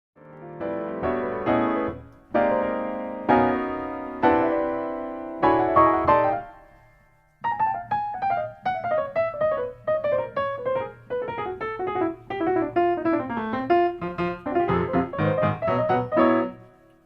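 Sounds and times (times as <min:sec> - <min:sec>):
solo piano music: 0:00.2 - 0:17.0.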